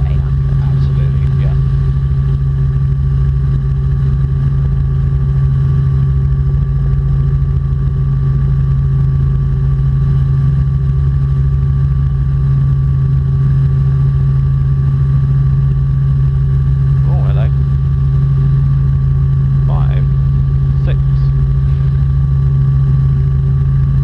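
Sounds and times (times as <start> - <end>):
helicopter engine and rotor drone: 0.0 - 24.0
high-pitched whine: 0.0 - 24.0.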